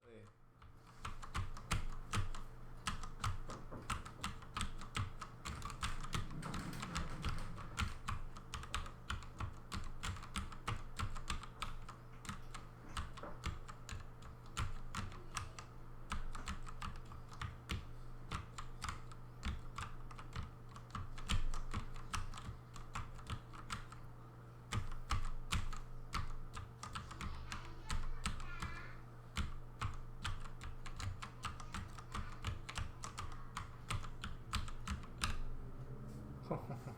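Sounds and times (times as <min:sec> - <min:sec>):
mechanical keyboard clacking: 0:01.0 - 0:24.0, 0:24.7 - 0:28.7, 0:29.4 - 0:35.5.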